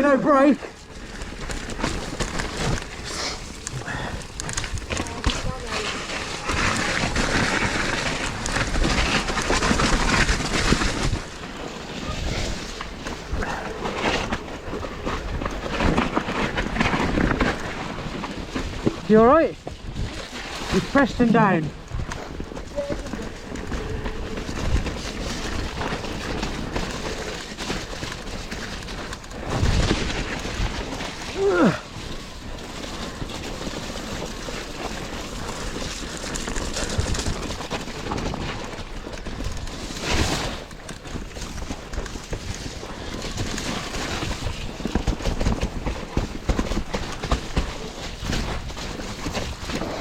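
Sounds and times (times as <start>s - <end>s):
bike rattling over bumps: 0.0s - 50.0s
tyres churning through mud: 0.0s - 50.0s
wind: 0.0s - 50.0s.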